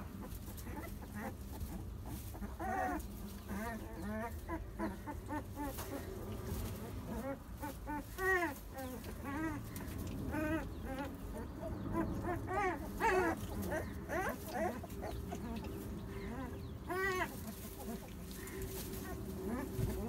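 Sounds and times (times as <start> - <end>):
low steady rumble: 0.0 - 20.0
puppies whimpering: 0.0 - 20.0.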